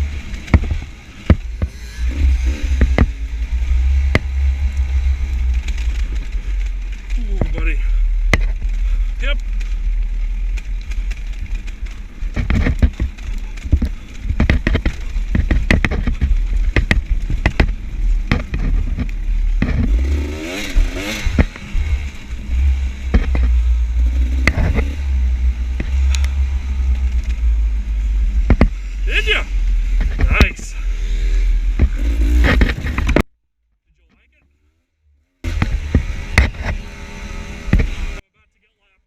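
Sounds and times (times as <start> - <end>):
dirt bike engine revving: 0.0 - 33.2, 35.4 - 38.2
steady low rumble: 0.0 - 33.2
sharp knocks and clatter: 0.2 - 27.6, 28.3 - 28.8, 29.9 - 30.7, 31.7 - 33.3, 35.4 - 36.8.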